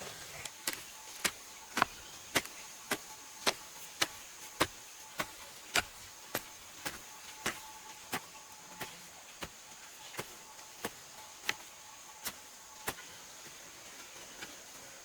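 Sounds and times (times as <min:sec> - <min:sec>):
faint high-pitched hiss: 0:00.0 - 0:15.0
hand tool striking: 0:00.6 - 0:13.6.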